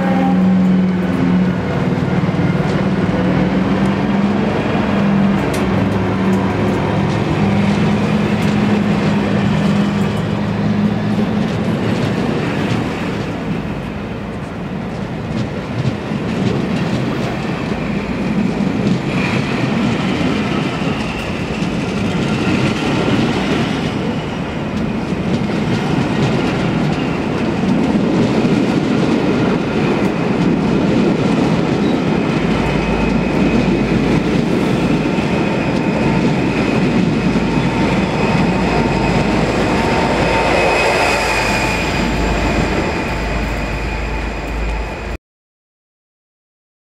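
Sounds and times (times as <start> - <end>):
locomotive engine hum: 0.0 - 45.2
train coaches rumbling past: 0.0 - 45.2.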